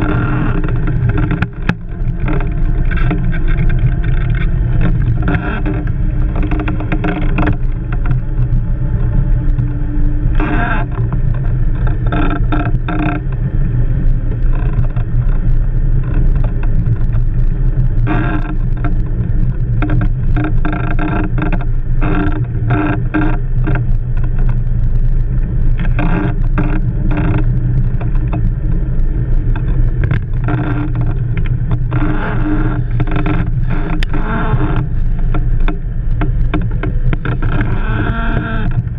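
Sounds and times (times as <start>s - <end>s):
wheels and frame rattling: 0.0s - 38.9s.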